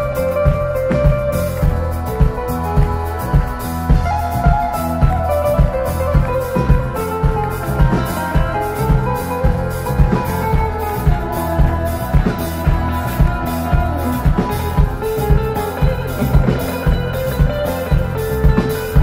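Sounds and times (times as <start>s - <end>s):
bass and guitars: 0.0s - 19.0s
drum kit beat: 0.0s - 19.0s
melodic lead line: 0.0s - 19.0s.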